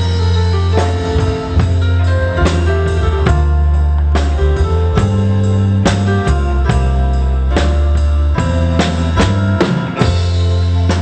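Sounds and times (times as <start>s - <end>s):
live pop band playing: 0.0s - 11.0s.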